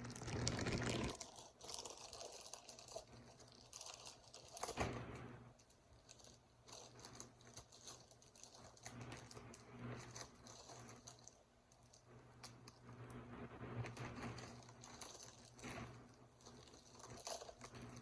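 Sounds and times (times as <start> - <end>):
package rustling and crinkling: 0.0 - 12.9, 13.8 - 18.0
low steady hum: 0.0 - 18.0.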